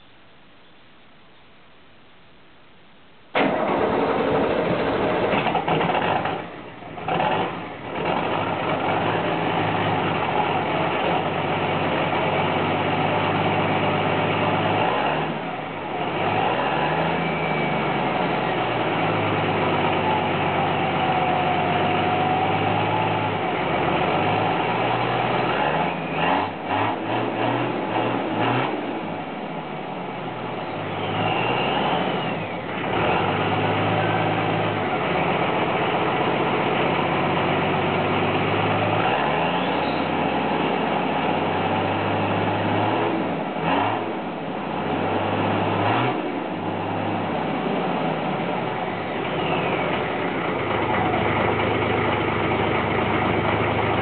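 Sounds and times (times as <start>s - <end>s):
turbo engine revving: 3.4s - 54.0s.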